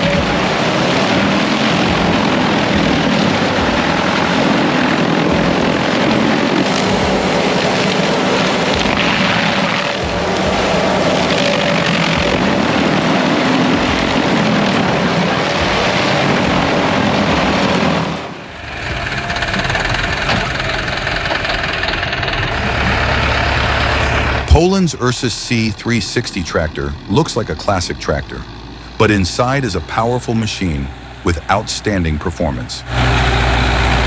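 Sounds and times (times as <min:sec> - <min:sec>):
engine running at lower pitch: 0:00.0 - 0:34.0
heavy machinery engines: 0:00.0 - 0:34.0.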